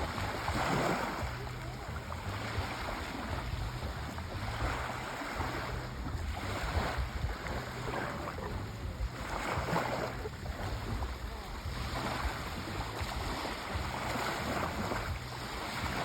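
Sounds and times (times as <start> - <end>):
sea waves breaking: 0.0 - 16.0
wind rumble on microphone: 0.0 - 16.0.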